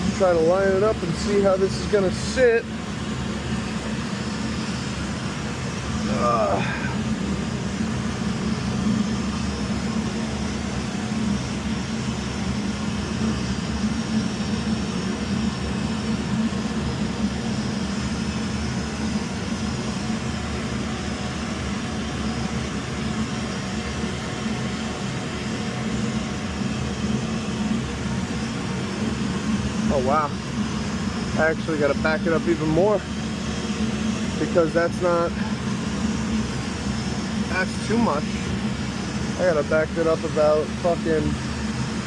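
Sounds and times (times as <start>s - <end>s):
heating equipment droning: 0.0s - 42.0s.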